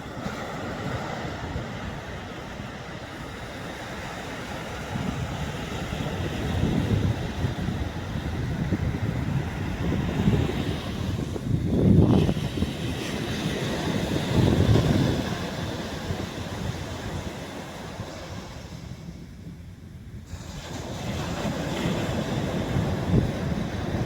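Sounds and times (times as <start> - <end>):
sea waves breaking on beach: 0.0 - 19.4, 20.2 - 24.0
wind noise on microphone: 0.0 - 24.0.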